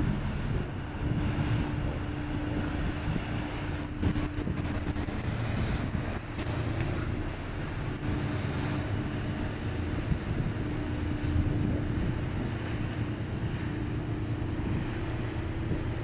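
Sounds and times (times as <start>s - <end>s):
constant hum tone: 0.0s - 16.0s
ship engines droning: 0.0s - 16.0s
wind buffeting microphone: 0.0s - 16.0s.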